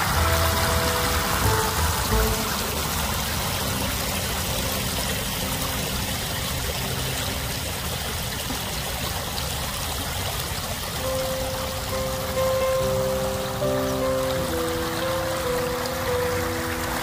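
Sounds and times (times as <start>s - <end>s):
river water rushing over stones: 0.0s - 17.0s.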